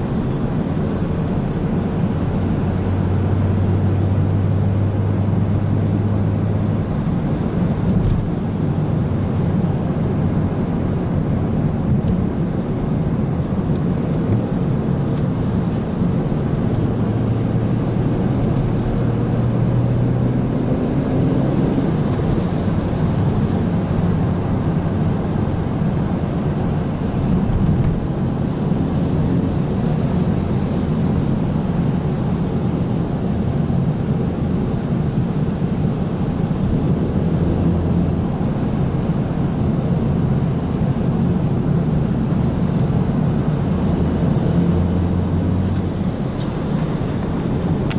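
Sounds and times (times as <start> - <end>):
car engine droning at cruise: 0.0 - 47.9
road noise: 0.0 - 47.9.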